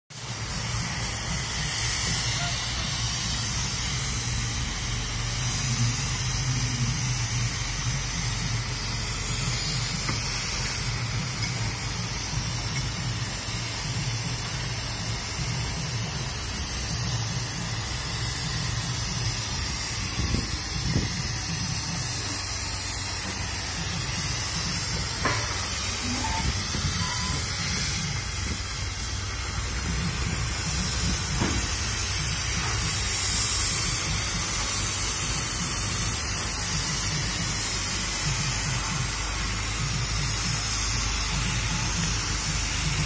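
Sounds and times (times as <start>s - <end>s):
crane engine rumbling: 0.2s - 43.0s.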